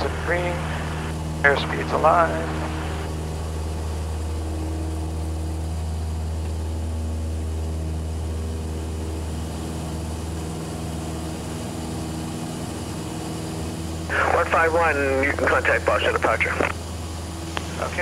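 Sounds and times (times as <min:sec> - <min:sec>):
airplane engine droning: 0:00.0 - 0:18.0.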